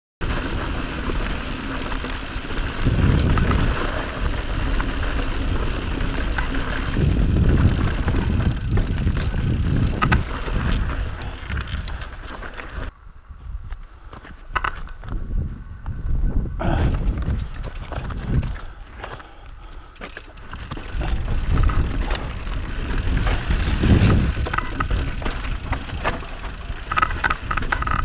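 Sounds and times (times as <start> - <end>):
bike clicks and rattles: 0.2 - 13.0, 13.6 - 28.0
wind buffeting microphone: 0.2 - 14.1, 14.7 - 19.0, 20.5 - 28.0
tyres on dirt and rock: 0.2 - 16.1, 16.7 - 28.0.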